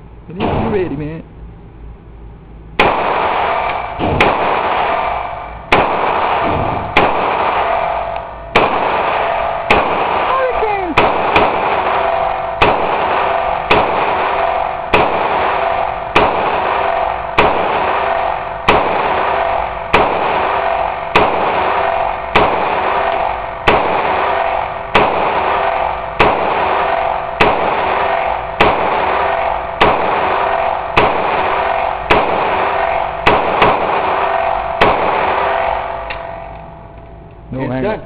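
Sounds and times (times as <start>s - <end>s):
rifle shots with echo: 2.8s - 36.7s.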